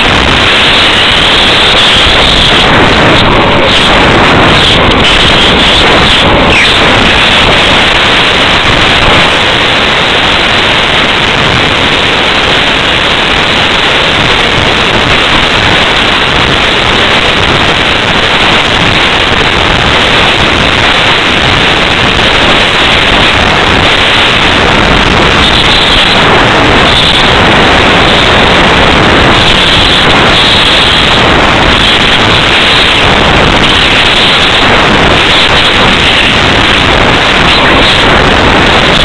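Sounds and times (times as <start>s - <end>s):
wind rushing over microphone: 0.0s - 39.0s.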